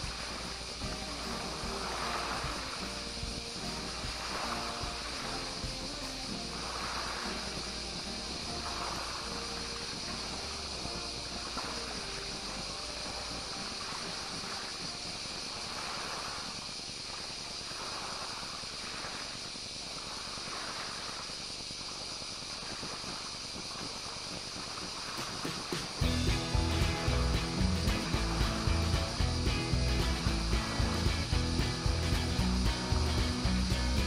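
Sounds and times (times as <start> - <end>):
steady high hiss: 0.0 - 34.0
waves washing against shore: 0.0 - 34.0.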